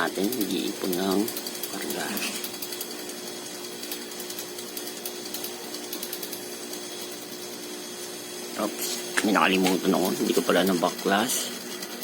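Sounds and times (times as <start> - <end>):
air compressor humming and rattling: 0.0 - 12.0.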